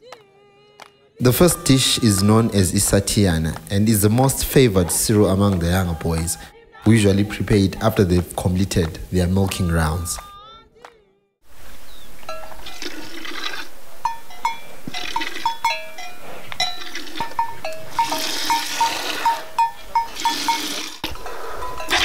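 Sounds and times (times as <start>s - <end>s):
constant hiss: 0.8s - 10.2s, 11.4s - 22.0s.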